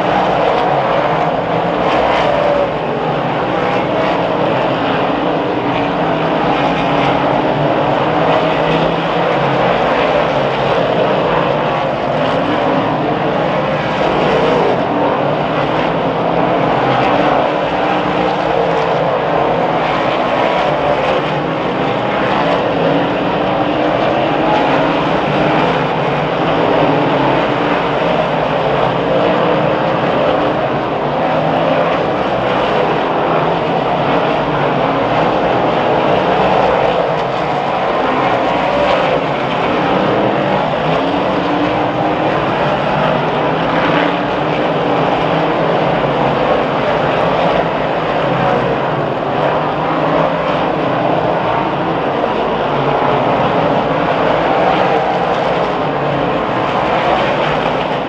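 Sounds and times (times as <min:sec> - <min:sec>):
race car engines roaring: 0:00.0 - 0:58.0.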